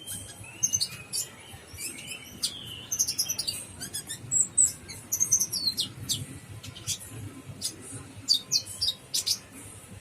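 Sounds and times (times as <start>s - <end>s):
bird chirps and trills: 0.0s - 9.6s.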